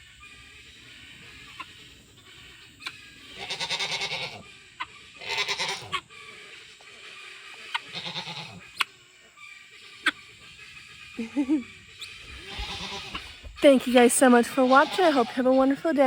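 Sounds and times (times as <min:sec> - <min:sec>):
guinea fowl calling: 0:00.0 - 0:16.0.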